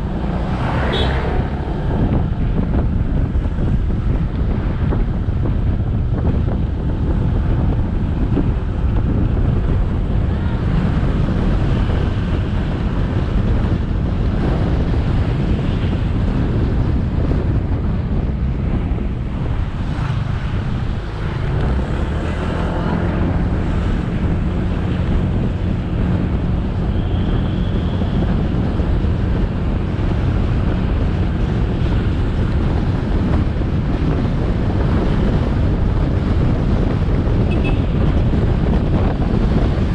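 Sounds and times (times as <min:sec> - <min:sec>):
motorcycle engine: 0:00.0 - 0:33.5
road noise: 0:00.0 - 0:39.9
wind buffeting microphone: 0:00.0 - 0:39.9.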